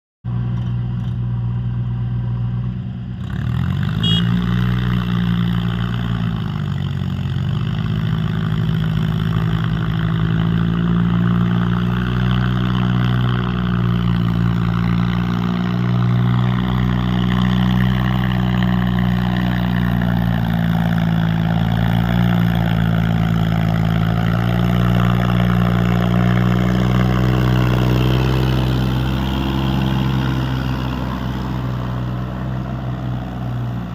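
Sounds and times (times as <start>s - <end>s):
tractor diesel engine revving: 3.1s - 33.9s.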